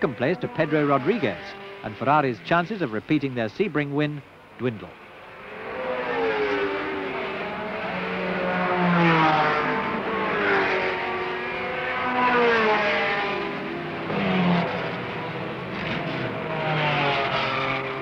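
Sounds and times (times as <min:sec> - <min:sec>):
racing cars passing at speed: 0:00.0 - 0:18.0.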